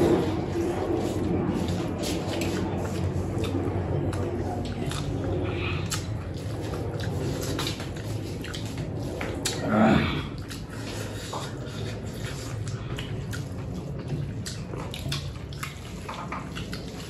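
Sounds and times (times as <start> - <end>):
low steady hum: 0.0 - 17.0
wet chewing: 0.0 - 17.0.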